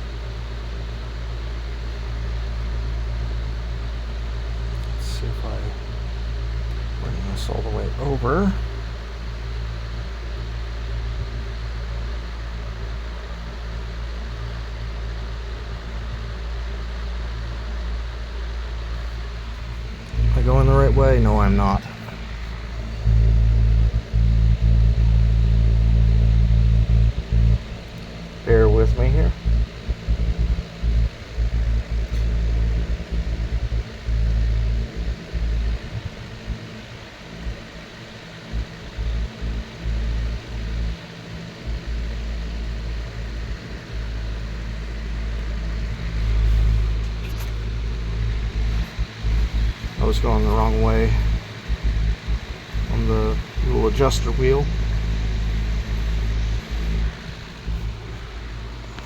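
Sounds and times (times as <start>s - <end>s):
faint steady hiss: 0.0s - 59.0s
fan motor hum: 0.0s - 59.0s
rush of air from fan blades: 0.0s - 59.0s.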